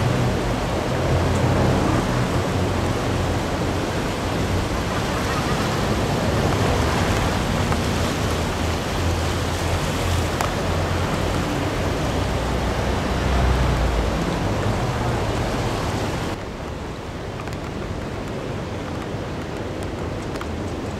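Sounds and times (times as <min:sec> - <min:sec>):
river rushing: 0:00.0 - 0:20.9.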